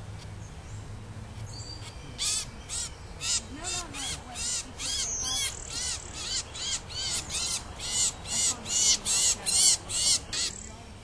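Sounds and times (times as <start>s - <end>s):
songbird distress calls: 1.5s - 10.8s.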